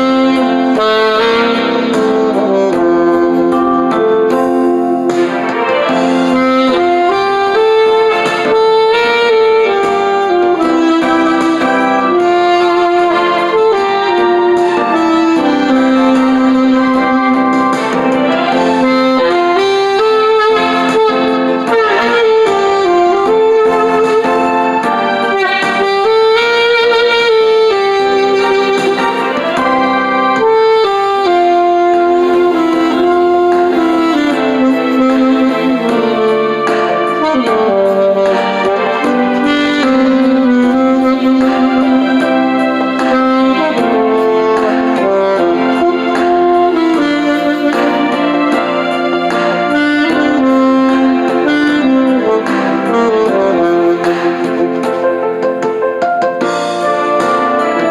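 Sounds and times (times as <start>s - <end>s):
piano accompaniment: 0.0s - 57.9s
saxophone melody: 0.0s - 57.9s.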